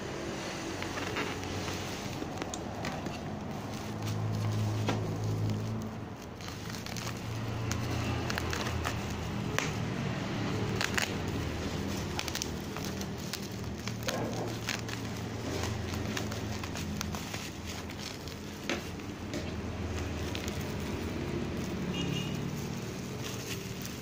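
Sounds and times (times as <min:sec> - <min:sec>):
plastic wrapping crinkling: 0:00.1 - 0:24.0
scissors cutting: 0:00.8 - 0:24.0.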